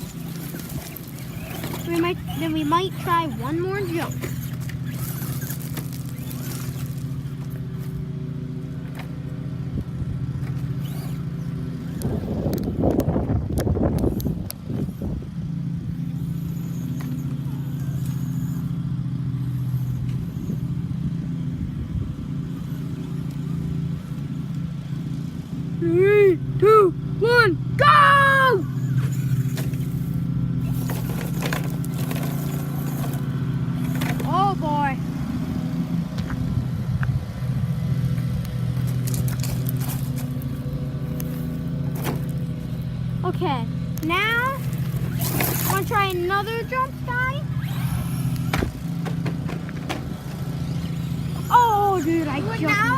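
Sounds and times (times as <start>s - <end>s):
simulated engine idle hum: 0.0s - 52.9s.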